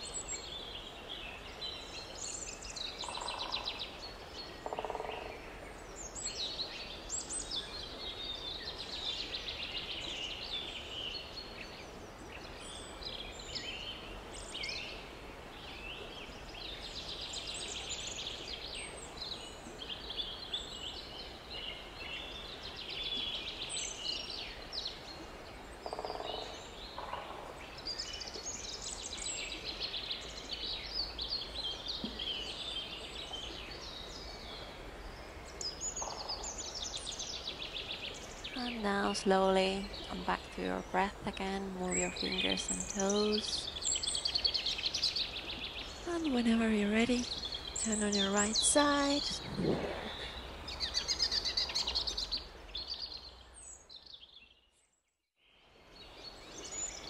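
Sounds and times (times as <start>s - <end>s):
songbirds chirping and trilling: 0.0s - 54.9s, 55.5s - 57.0s.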